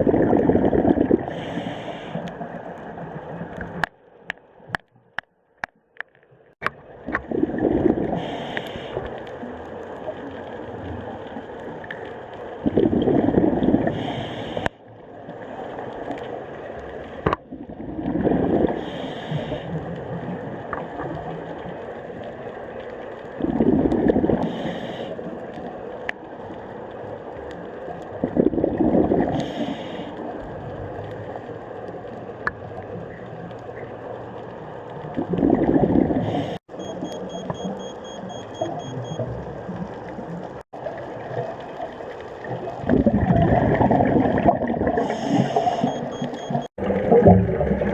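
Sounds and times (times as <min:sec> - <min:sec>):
exhaled bubbles underwater: 0:00.0 - 0:03.9, 0:06.6 - 0:47.9.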